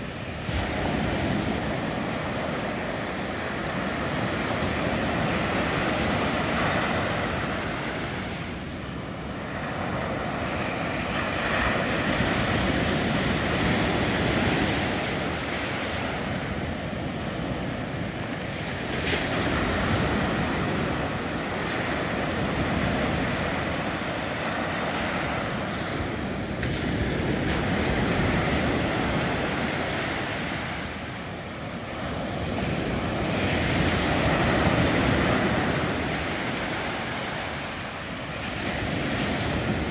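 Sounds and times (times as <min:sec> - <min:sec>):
surf breaking on a beach: 0:00.0 - 0:39.9.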